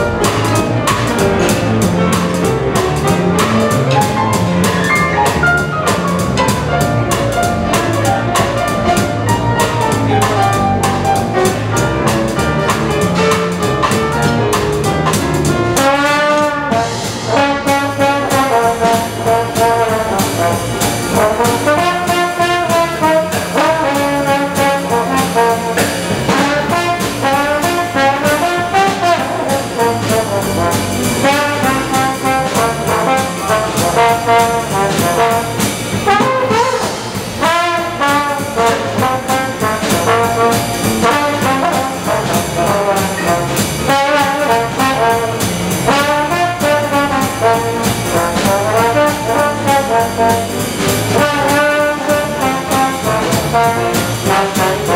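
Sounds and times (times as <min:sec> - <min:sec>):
jazz band playing: 0:00.0 - 0:54.9
trombone leading: 0:00.0 - 0:54.9.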